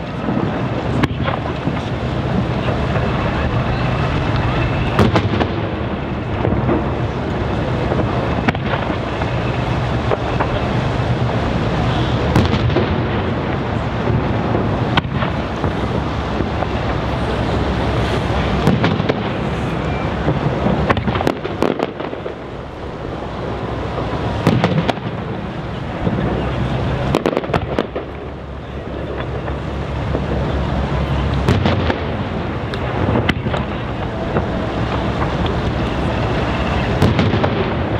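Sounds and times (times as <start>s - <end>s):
continuous din: 0.0s - 37.9s.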